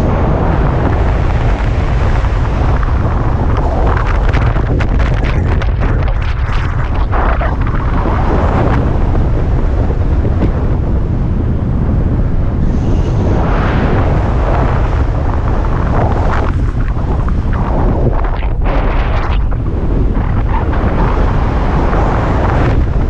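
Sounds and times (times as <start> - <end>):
rushing air buffeting microphone: 0.0 - 23.0.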